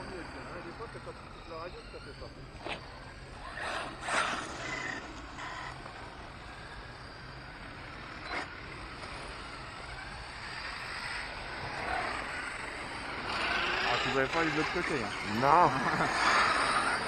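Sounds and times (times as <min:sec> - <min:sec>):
electric motor whine: 0:00.0 - 0:17.0
steady outdoor hiss: 0:00.0 - 0:17.0.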